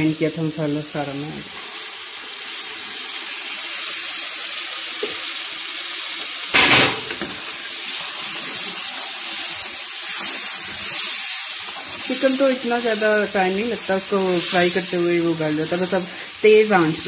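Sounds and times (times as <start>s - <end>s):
paste sizzling in hot oil: 0.9s - 17.0s.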